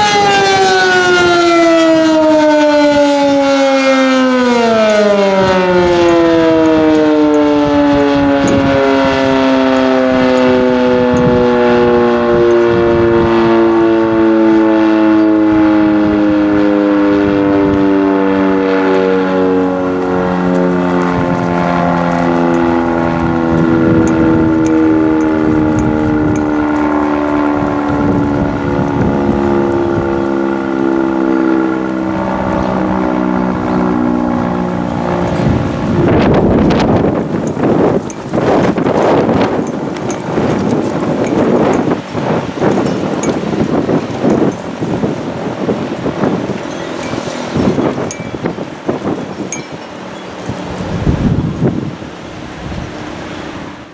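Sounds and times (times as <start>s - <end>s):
warning siren winding down: 0.0s - 53.9s
wind buffeting microphone: 0.0s - 53.9s.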